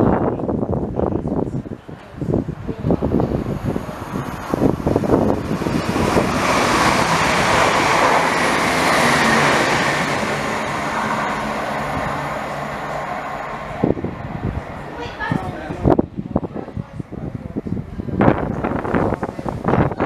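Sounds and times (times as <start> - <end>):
diesel train passing: 0.0 - 20.0
wind buffeting microphone: 0.0 - 20.0.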